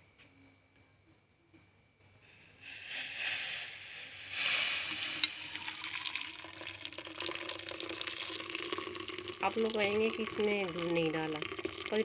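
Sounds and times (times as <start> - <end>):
tea pouring into a cup: 2.4 - 12.0.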